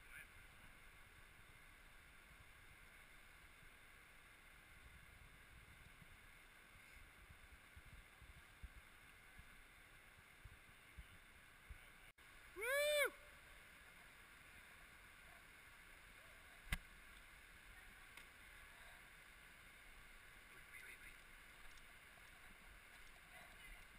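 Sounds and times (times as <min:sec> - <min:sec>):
muffled river water rushing: 0:00.0 - 0:23.9.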